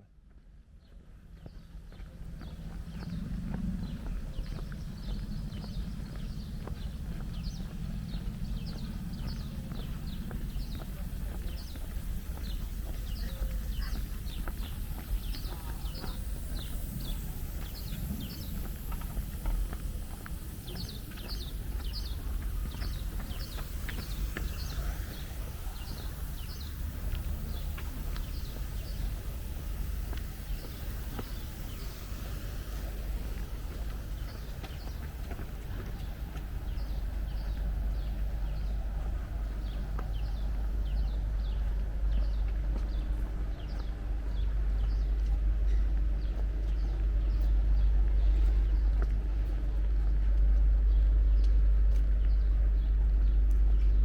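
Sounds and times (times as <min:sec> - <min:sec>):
wind rumble on microphone: 0:01.4 - 0:54.0
footsteps walking: 0:02.4 - 0:54.0.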